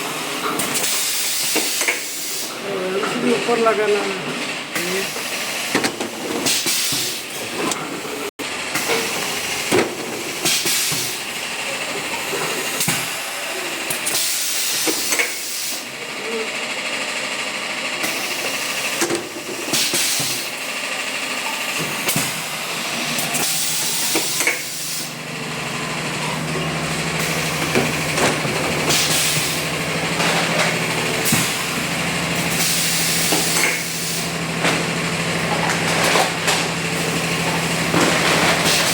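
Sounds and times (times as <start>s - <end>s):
compressor motor hum: 0.0s - 38.9s.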